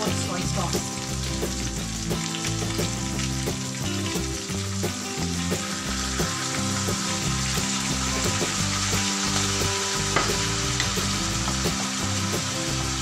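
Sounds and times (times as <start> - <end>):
background music: 0.0 - 13.0
fish sizzling in hot oil: 0.0 - 13.0
sauce pouring: 0.1 - 13.0.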